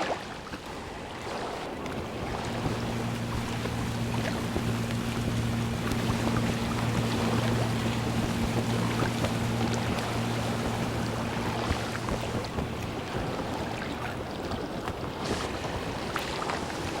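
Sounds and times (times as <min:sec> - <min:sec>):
water lapping against hull: 0:00.0 - 0:17.0
boat engine humming: 0:00.3 - 0:17.0.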